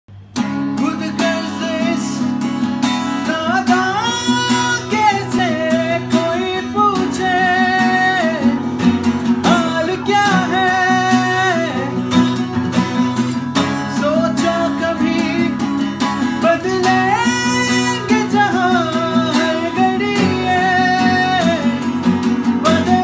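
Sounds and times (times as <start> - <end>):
acoustic guitars strumming: 0.1 - 23.0
man singing: 0.6 - 23.0.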